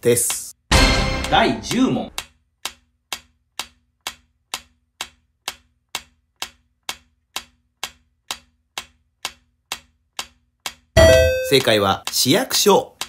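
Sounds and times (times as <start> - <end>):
clock-like timer ticking: 0.0 - 13.0.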